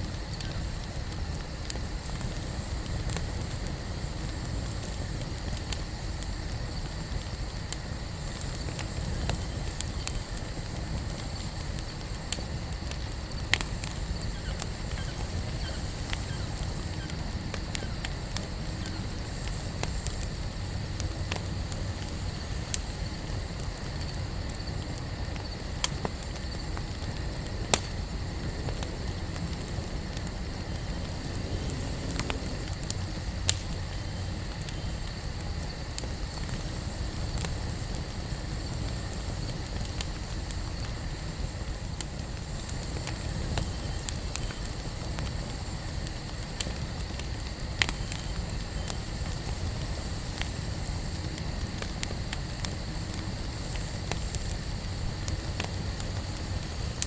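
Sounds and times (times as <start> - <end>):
crackling pops of burning wood: 0.0 - 57.0
low rumble of flames: 0.0 - 57.0.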